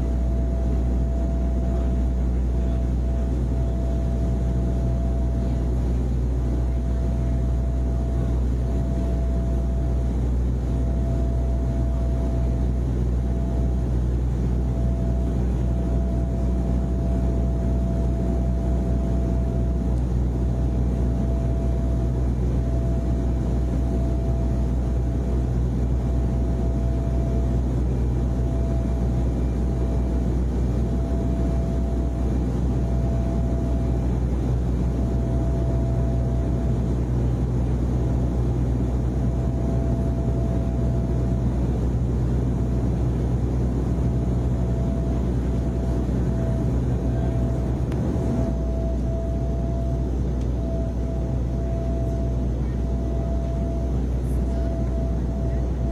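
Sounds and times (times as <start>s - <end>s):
airliner engine drone: 0.0s - 55.9s
faint high whine: 0.0s - 55.9s.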